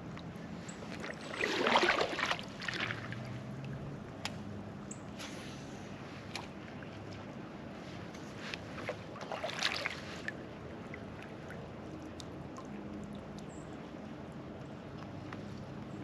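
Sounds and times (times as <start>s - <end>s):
water around a kayak: 0.0s - 16.0s.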